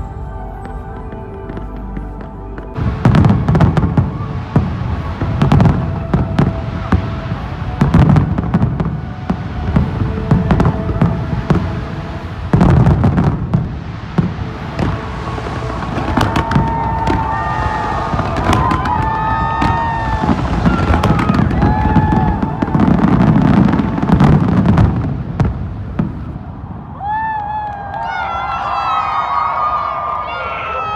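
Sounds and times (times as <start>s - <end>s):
low rumble: 0.0s - 27.2s
fireworks bangs and crackling: 0.0s - 27.6s
whistling fireworks: 0.0s - 30.9s.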